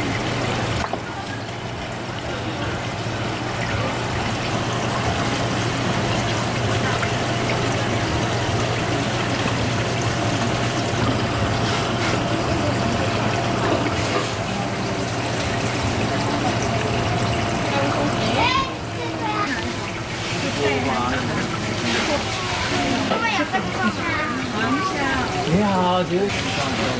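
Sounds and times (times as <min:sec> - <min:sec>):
pump hum: 0:00.0 - 0:26.9
water trickling and splashing: 0:00.0 - 0:26.9.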